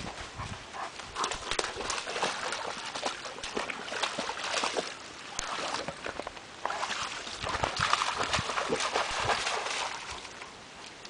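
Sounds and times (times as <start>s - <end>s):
dog splashing through water: 1.2s - 10.4s.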